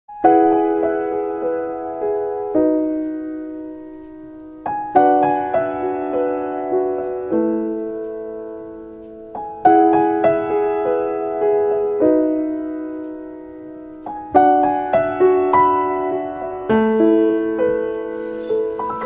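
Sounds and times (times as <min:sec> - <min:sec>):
gentle solo piano: 0:00.1 - 0:19.0.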